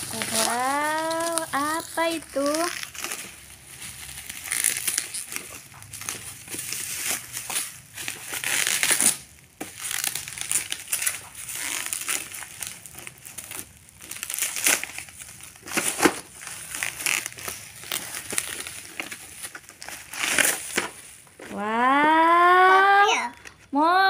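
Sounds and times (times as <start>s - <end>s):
bubble wrap crinkling: 0.0s - 21.9s.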